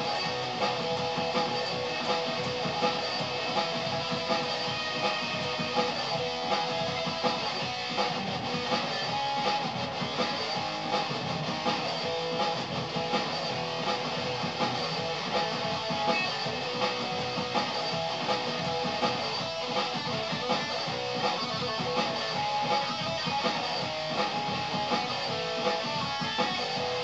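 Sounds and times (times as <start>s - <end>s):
electric guitar strumming: 0.0s - 27.0s.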